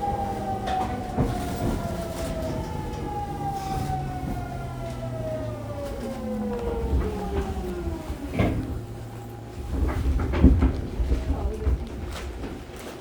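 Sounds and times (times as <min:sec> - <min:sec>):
train car rumble: 0:00.0 - 0:13.0
train inverter whine: 0:00.0 - 0:13.0.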